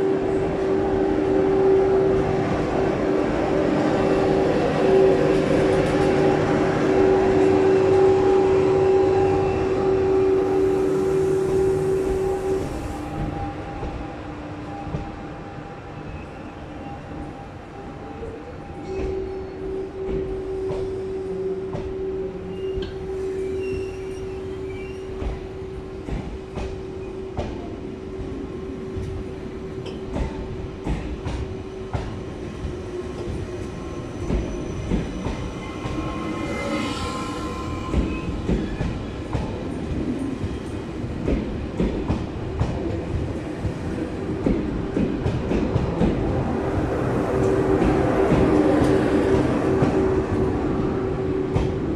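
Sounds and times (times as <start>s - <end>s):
train pulling out: 0.0s - 51.9s.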